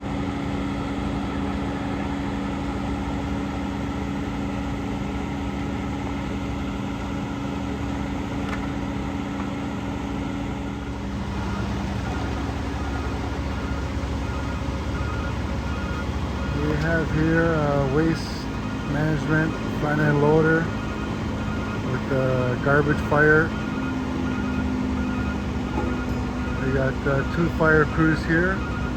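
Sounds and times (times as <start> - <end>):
diesel truck engines idling: 0.0 - 28.9.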